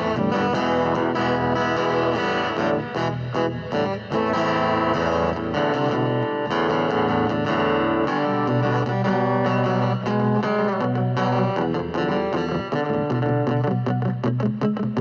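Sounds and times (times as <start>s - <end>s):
electric guitar with effects: 0.0s - 15.0s.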